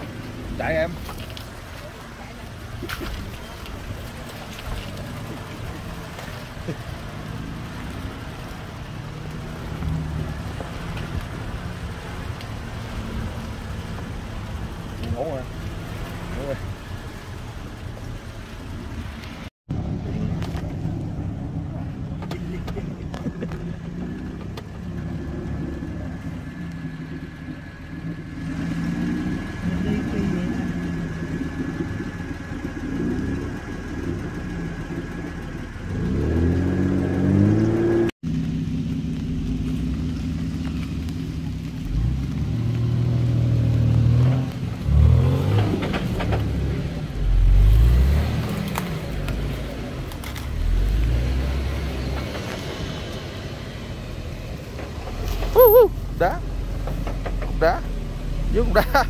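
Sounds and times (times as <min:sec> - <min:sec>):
engine labouring and revving: 0:00.0 - 0:59.0.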